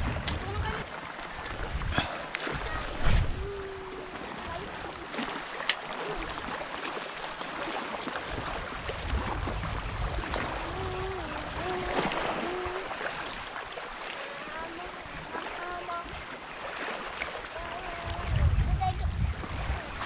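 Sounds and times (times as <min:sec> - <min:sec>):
shallow water sloshing: 0:00.0 - 0:19.0.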